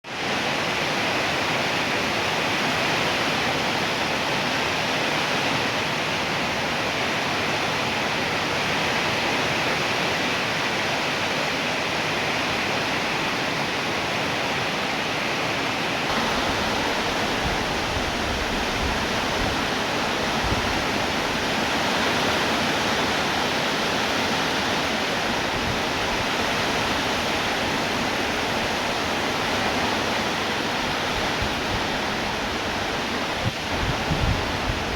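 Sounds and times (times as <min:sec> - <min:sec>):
heavy rainfall: 0:00.0 - 0:34.9.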